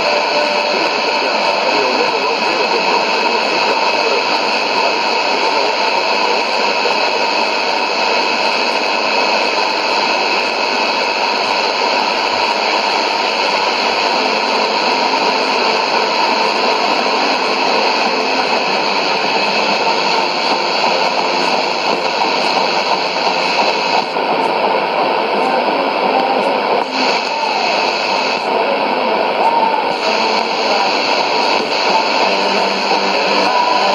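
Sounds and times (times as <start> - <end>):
shortwave radio static: 0.0 - 33.9.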